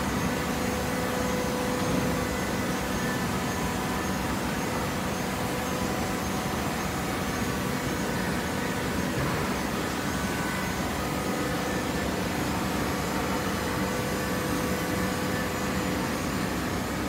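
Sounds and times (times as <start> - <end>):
baler machine drone: 0.0 - 17.0
faint machine whine: 0.0 - 17.0.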